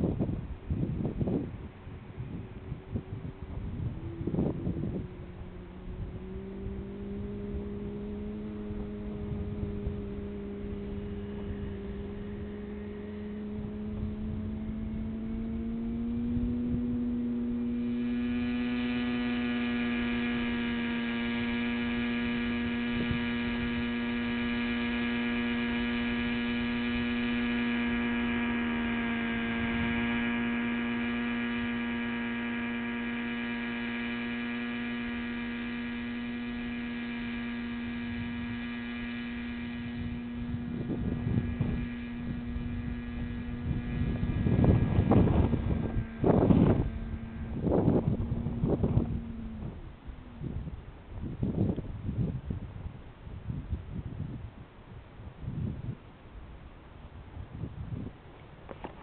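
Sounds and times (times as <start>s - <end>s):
model helicopter engine and rotor drone: 0.0s - 59.0s.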